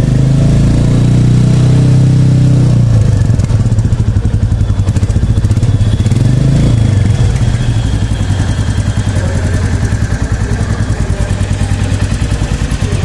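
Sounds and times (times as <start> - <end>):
motorcycle exhaust idling and revving: 0.0 - 13.0.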